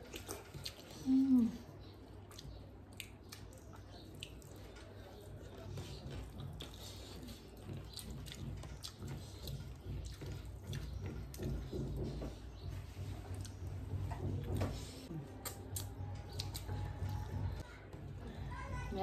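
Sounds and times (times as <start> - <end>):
wet chewing: 0.0 - 18.2.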